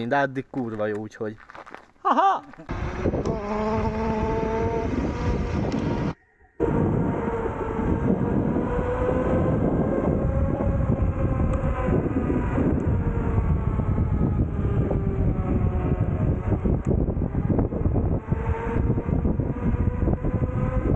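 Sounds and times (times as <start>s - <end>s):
electric motor whine: 2.7s - 20.9s
wind buffeting: 2.7s - 20.9s.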